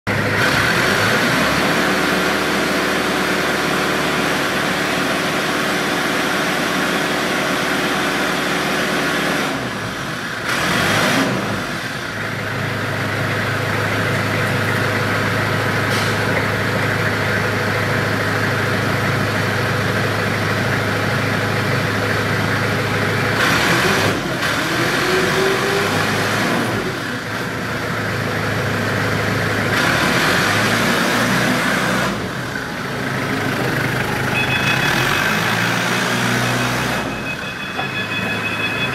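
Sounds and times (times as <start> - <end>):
forklift engine running: 0.1 - 38.9.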